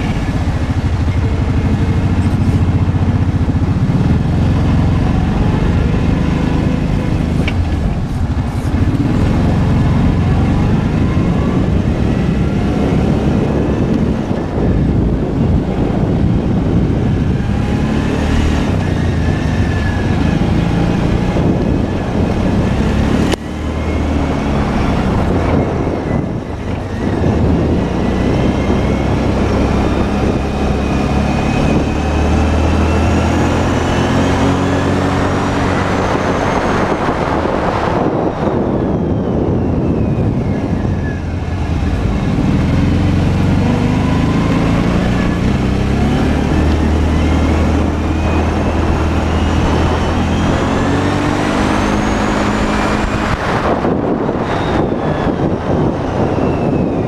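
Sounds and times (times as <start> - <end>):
atv engine running: 0.0 - 57.0
steady rushing noise: 0.0 - 57.0.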